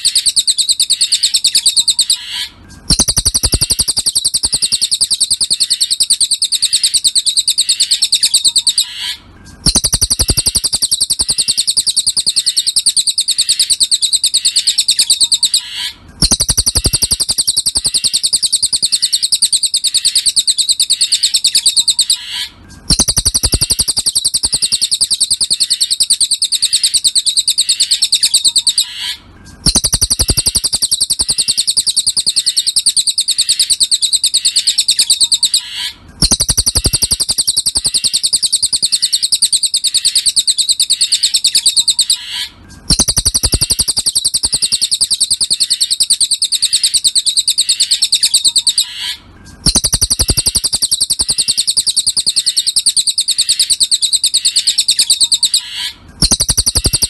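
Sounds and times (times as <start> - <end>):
bird chirping trill: 0.0 - 57.0.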